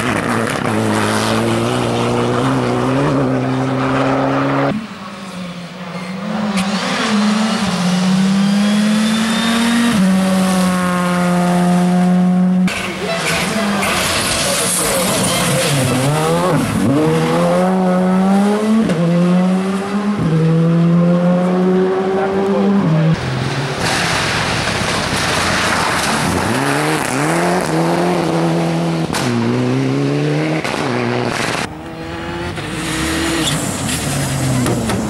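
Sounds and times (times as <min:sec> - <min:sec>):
rally car engines accelerating: 0:00.0 - 0:35.0.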